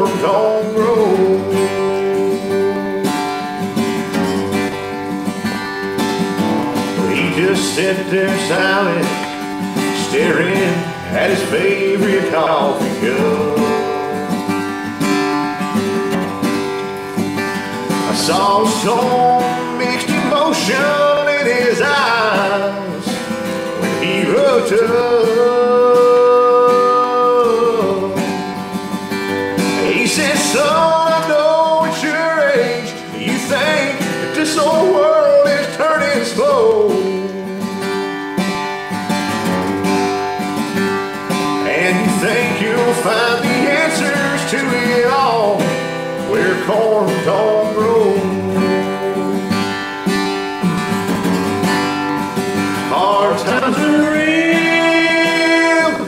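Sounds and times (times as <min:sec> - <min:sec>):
country music with guitar: 0:00.0 - 0:56.0.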